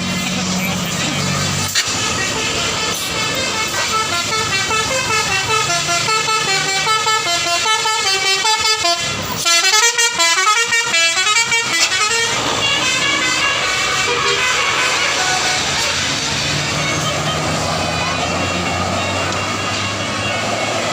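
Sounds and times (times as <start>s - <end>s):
bus musical horn melody: 0.4s - 20.9s.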